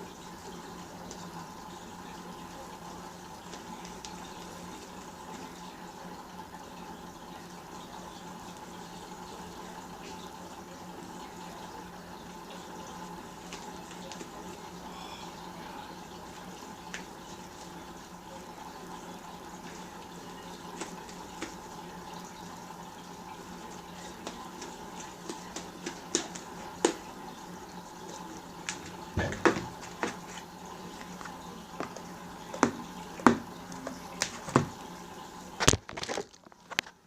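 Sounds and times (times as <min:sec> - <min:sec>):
steady low hum: 0:00.0 - 0:35.6.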